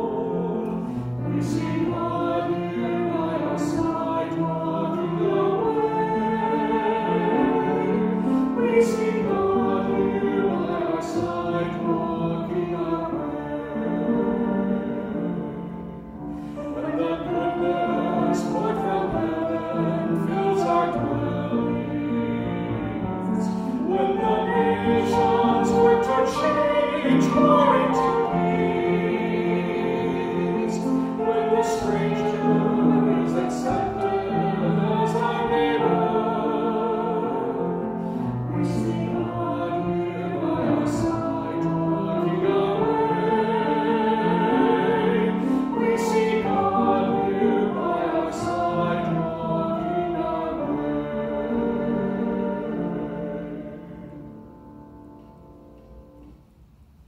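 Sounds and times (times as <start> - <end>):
people singing a hymn: 0.0 - 54.6.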